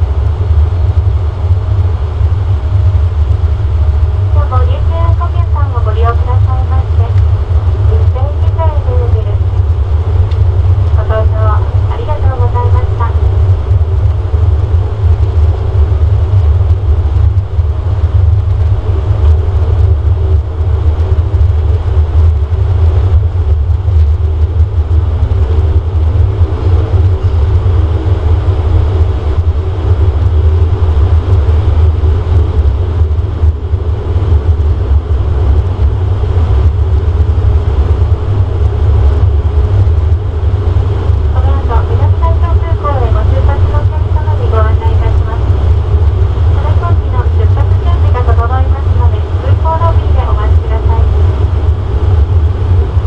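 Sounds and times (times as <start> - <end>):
turboprop engine rumble in cabin: 0.0 - 53.0.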